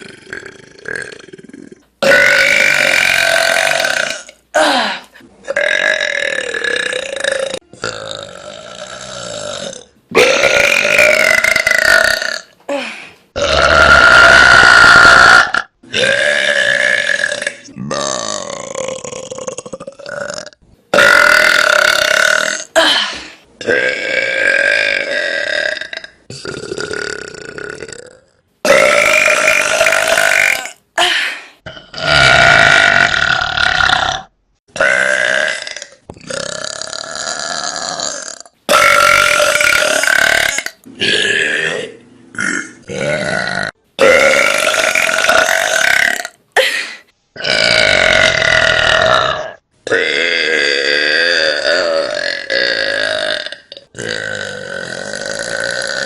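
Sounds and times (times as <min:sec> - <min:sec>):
women belching: 0:00.0 - 0:12.5, 0:13.4 - 0:46.8, 0:47.4 - 0:56.0.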